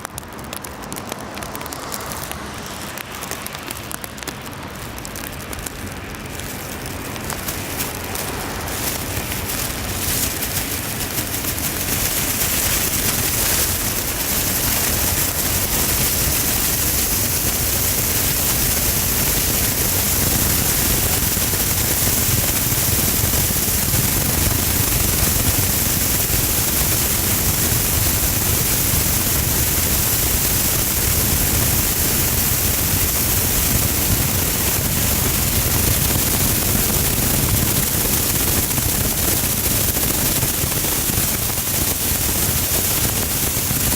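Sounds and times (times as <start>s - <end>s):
heavy rain on car roof: 0.0s - 43.9s.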